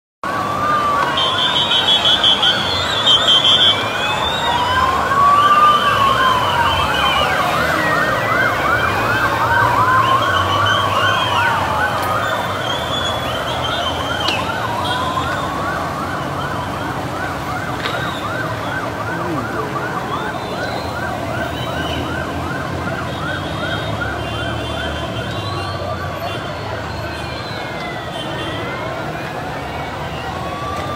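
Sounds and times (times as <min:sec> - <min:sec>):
siren wails rising and falling: 0:00.2 - 0:30.9
siren yelp: 0:00.2 - 0:30.9.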